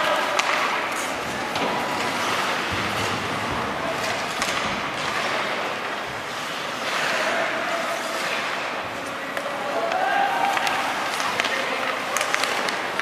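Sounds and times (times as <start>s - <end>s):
arena crowd hubbub: 0.0s - 13.0s
hockey sticks and puck clacking: 0.0s - 13.0s.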